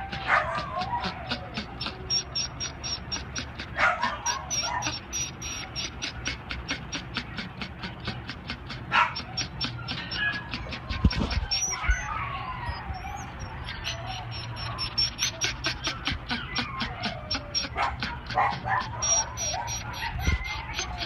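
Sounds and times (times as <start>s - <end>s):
dog panting fast: 0.0s - 12.1s, 12.7s - 21.0s
dog whining: 0.0s - 21.0s.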